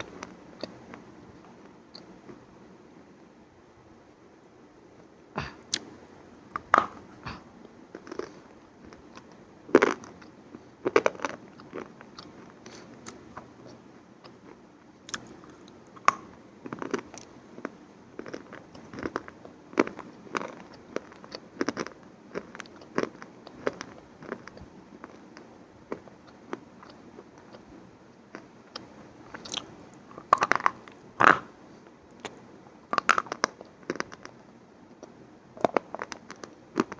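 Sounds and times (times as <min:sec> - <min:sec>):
crunching and chewing crisp food: 0:00.0 - 0:02.5, 0:05.4 - 0:36.9.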